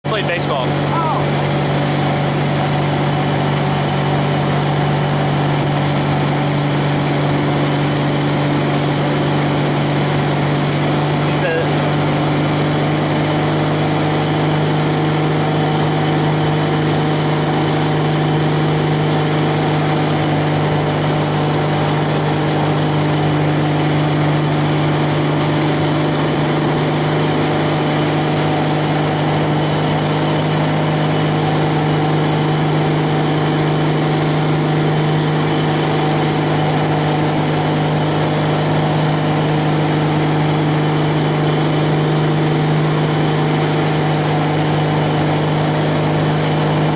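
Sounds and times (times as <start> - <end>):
boat engine droning: 0.0 - 46.9.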